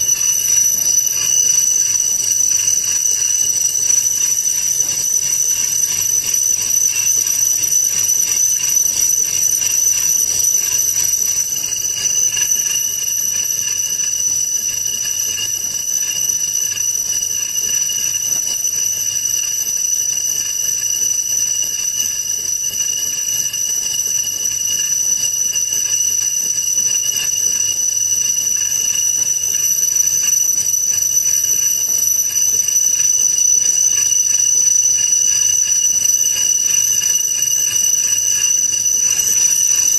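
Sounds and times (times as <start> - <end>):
machinery high-pitched metallic whine: 0.0 - 19.0, 25.4 - 39.9.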